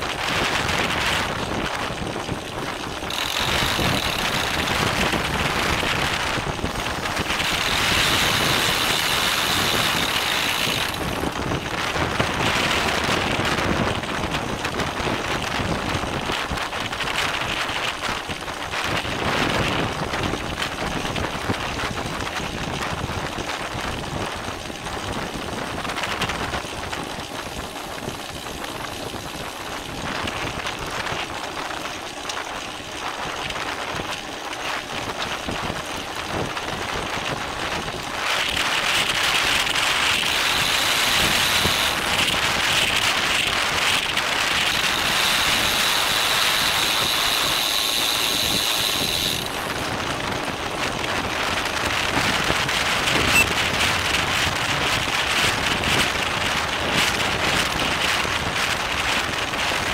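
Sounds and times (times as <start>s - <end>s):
tyre and road noise: 0.0s - 59.9s
wind rushing over microphone: 0.0s - 59.9s.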